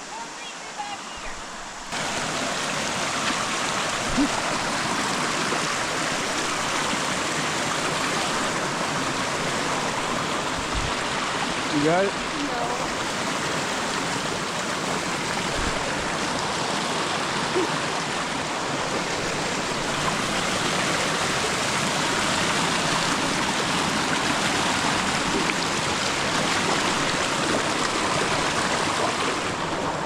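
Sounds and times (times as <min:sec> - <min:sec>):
rocky stream flowing: 0:00.0 - 0:30.0.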